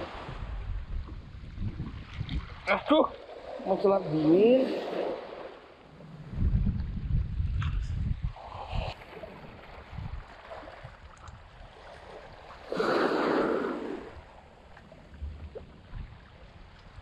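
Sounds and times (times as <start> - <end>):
water splashing: 0.0 - 6.2, 7.6 - 17.0
small waves lapping: 0.0 - 7.2, 8.1 - 17.0.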